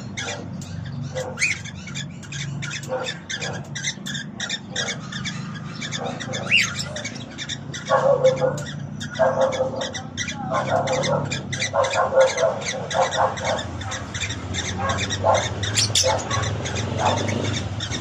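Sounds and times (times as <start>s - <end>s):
cockatiel chirping and whistling: 0.1s - 18.0s.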